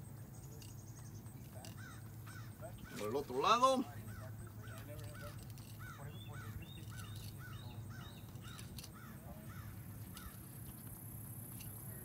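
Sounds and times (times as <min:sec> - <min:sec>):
steady low hum: 0:00.0 - 0:12.0
bird calling: 0:00.2 - 0:10.7.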